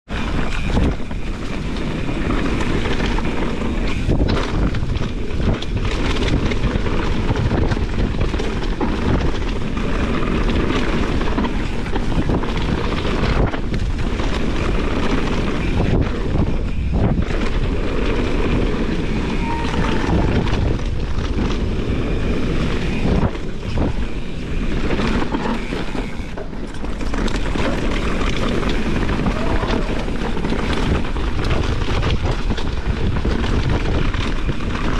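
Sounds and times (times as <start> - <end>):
bike chain and suspension rattle: 0.1 - 34.9
tyres rumbling on dirt: 0.1 - 34.9
wind buffeting microphone: 0.1 - 34.9.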